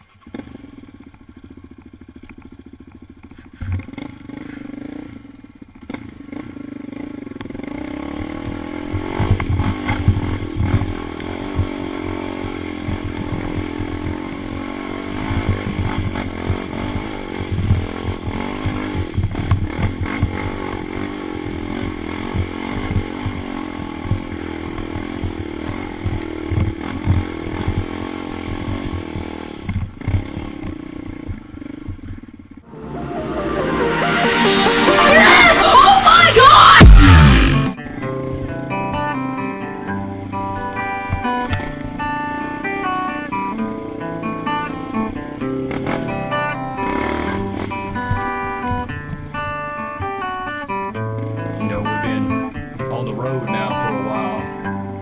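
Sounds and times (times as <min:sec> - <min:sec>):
atv engine revving: 0:00.0 - 0:32.3, 0:36.1 - 0:55.0.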